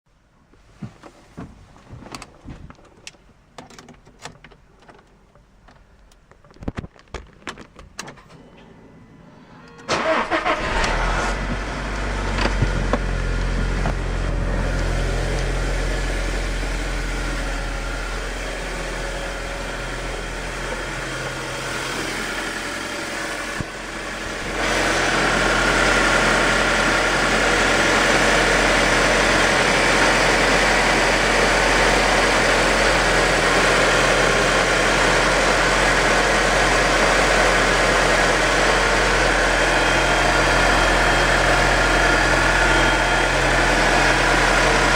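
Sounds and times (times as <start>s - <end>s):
car engine idling: 8.2s - 44.9s.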